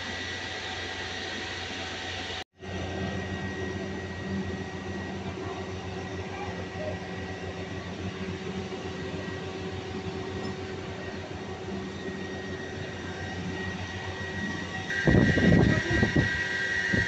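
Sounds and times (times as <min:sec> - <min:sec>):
high whine: 0:00.0 - 0:17.0
machinery drone with low hum: 0:00.0 - 0:17.0.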